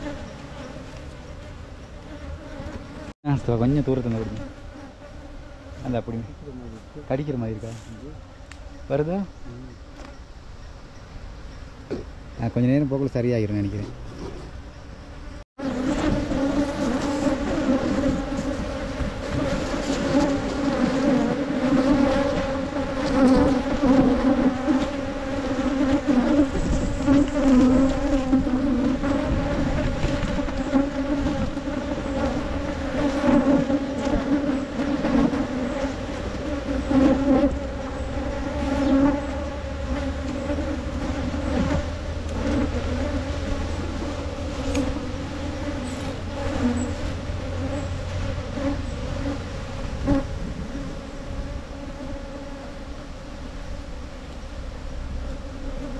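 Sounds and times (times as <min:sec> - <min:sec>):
bees buzzing: 0:00.0 - 0:12.4, 0:14.2 - 0:55.9.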